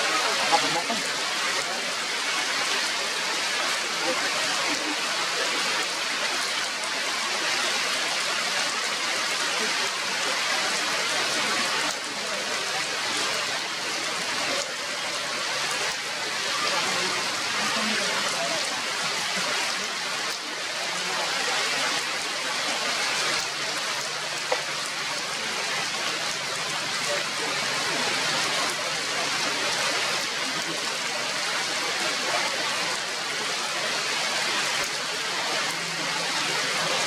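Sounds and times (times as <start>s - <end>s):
rain falling on foliage: 0.0s - 37.0s.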